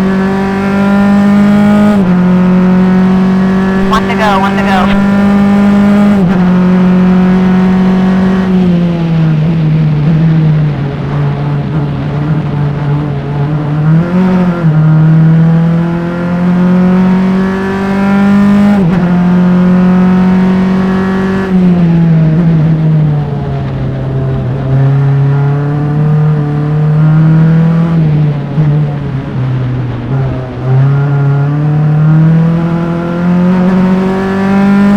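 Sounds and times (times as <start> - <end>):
race car engine revving: 0.0 - 27.9, 29.9 - 34.9.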